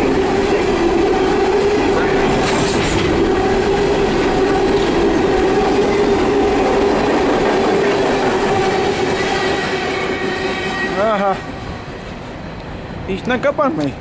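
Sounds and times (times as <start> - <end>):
train cars rumbling on steel wheels: 0.0 - 14.0.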